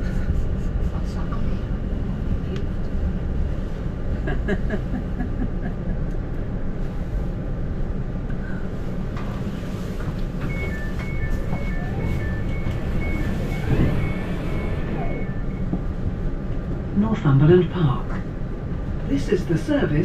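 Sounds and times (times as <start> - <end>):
train rumbling from inside carriage: 0.0 - 20.0.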